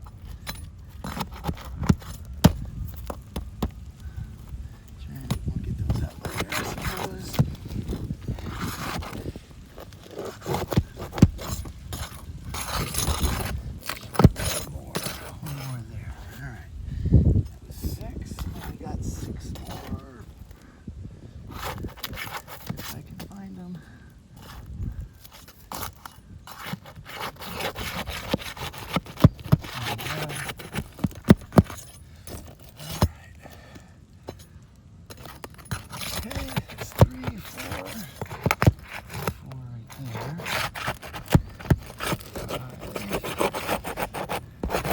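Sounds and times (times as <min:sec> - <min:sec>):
shingles scraping and clinking: 0:00.0 - 0:16.4, 0:17.5 - 0:20.8, 0:21.4 - 0:44.9.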